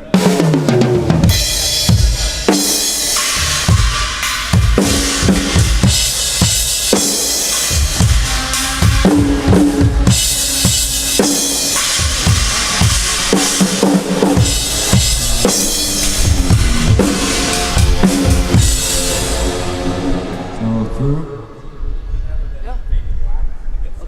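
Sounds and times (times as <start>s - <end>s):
rock drum kit beat: 0.0s - 20.5s
held pitched notes: 0.0s - 22.5s.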